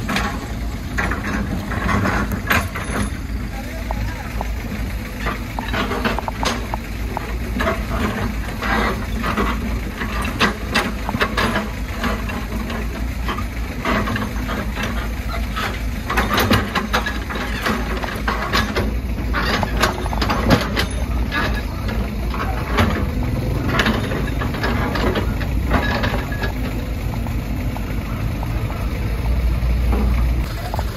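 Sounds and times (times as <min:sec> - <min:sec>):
excavator diesel engine: 0:00.0 - 0:30.9.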